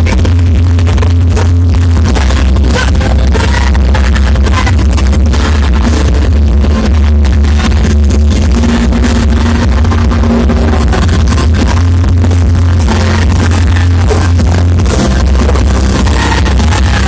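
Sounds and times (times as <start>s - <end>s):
electronic dance music with heavy bass: 0.0s - 17.0s.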